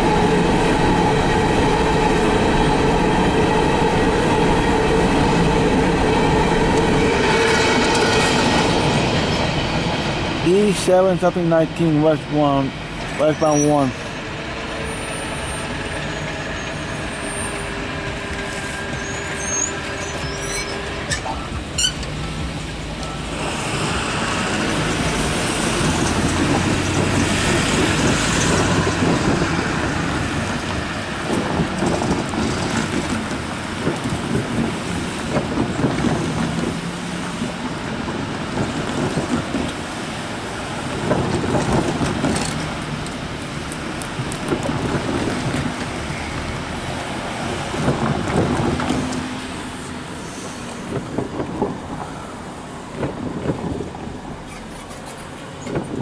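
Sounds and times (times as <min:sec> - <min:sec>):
train cars rolling on rails: 0:00.0 - 0:56.0.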